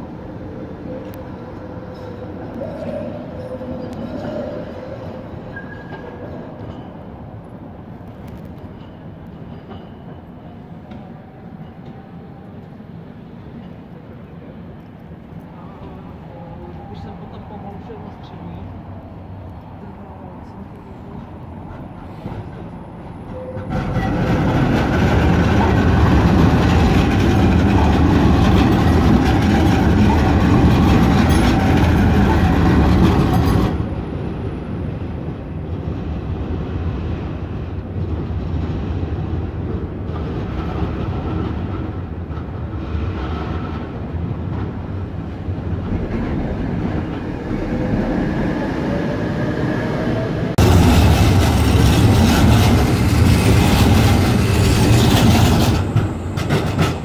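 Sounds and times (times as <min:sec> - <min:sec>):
distant tram: 0:00.0 - 0:57.0
tram passing on track: 0:00.0 - 0:57.0.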